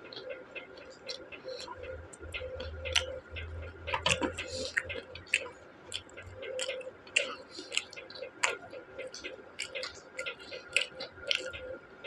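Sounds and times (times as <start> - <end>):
person chewing food: 0.0 - 11.8.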